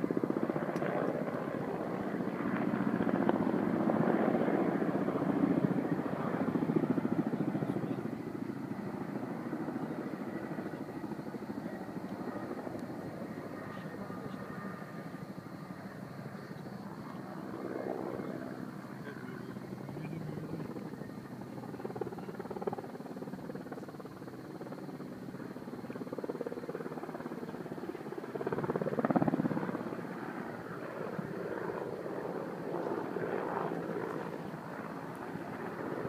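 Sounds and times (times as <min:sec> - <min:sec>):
helicopter rotor drone: 0:00.0 - 0:36.0.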